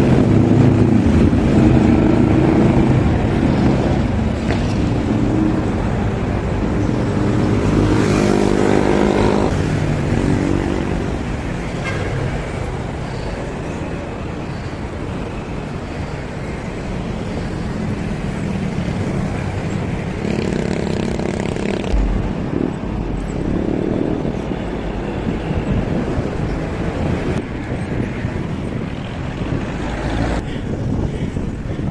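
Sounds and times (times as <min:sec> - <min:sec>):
motor vehicles passing: 0:00.0 - 0:31.9
wind and road noise: 0:00.0 - 0:31.9.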